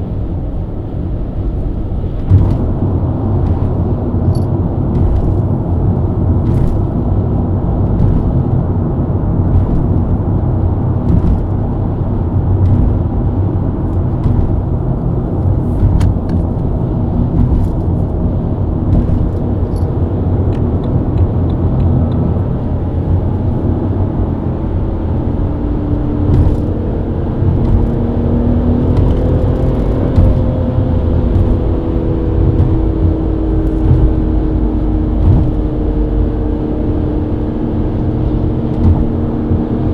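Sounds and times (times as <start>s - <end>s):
car engine at highway speed: 0.0s - 39.9s
road and tyre rumble: 0.0s - 39.9s.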